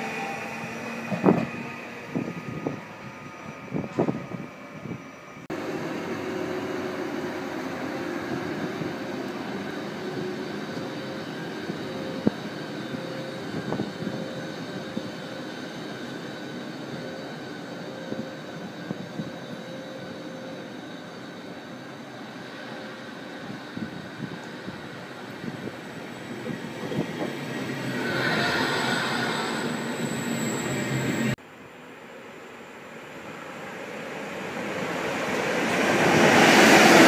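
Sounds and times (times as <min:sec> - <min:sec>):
locomotive cooling fans whirring: 0:00.0 - 0:31.4.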